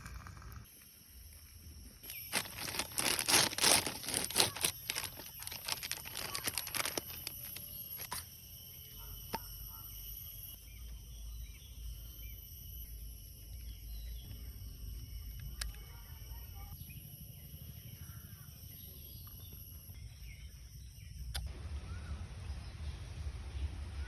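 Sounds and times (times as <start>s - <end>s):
faint high-pitched hum: 0.1s - 24.0s.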